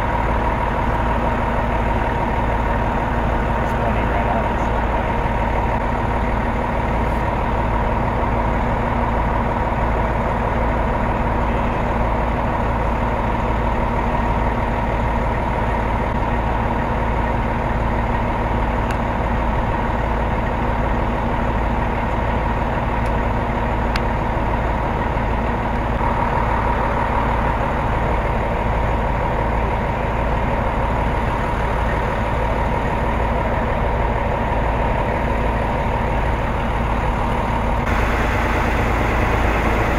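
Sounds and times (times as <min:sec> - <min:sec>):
heavy engine idling: 0:00.0 - 0:39.9
steady engine whine: 0:00.0 - 0:39.9.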